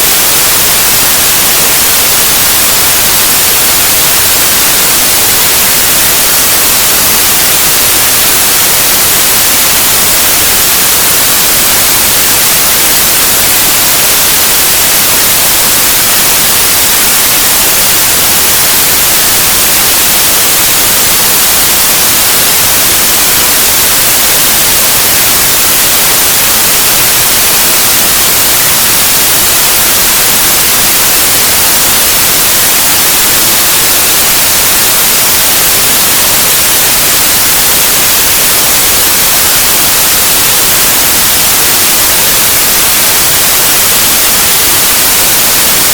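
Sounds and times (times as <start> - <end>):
white noise hiss: 0.0 - 45.9.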